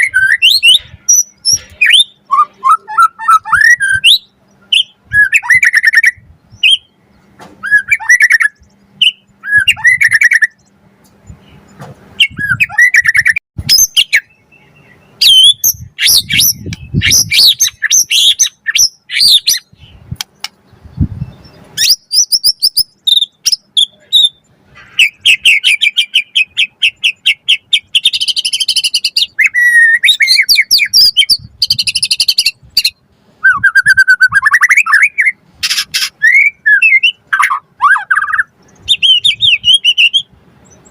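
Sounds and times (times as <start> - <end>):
bird singing whistled phrases: 0.0 - 7.0, 7.6 - 10.6, 12.2 - 20.0, 21.2 - 24.4, 25.0 - 40.3.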